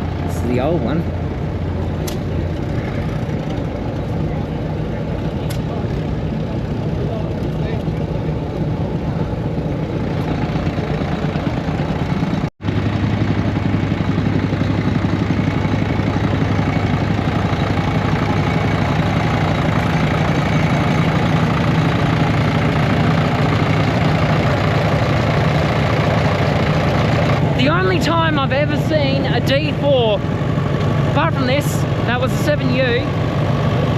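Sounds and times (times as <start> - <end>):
diesel tractor engine idling: 0.0 - 33.9.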